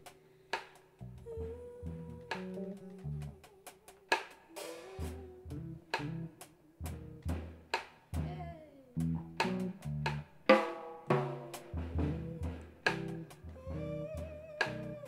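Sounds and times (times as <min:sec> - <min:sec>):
drum kit groove: 0:00.0 - 0:15.0
electric bass playing: 0:01.0 - 0:03.5, 0:04.9 - 0:15.0.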